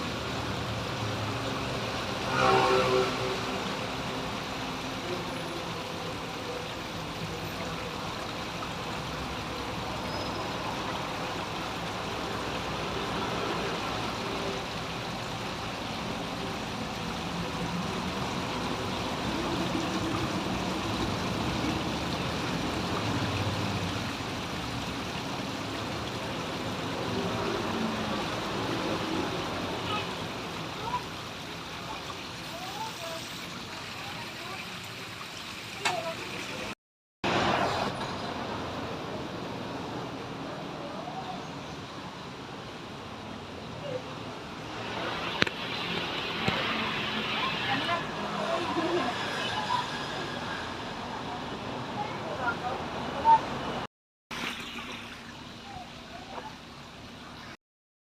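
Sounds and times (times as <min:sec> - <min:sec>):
running water: 0:00.0 - 0:57.6.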